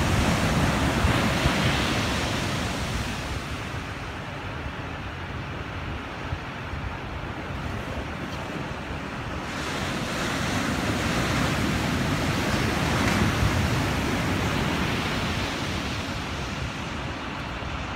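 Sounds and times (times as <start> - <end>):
wave breaking and rushing up sand: 0.0 - 17.9.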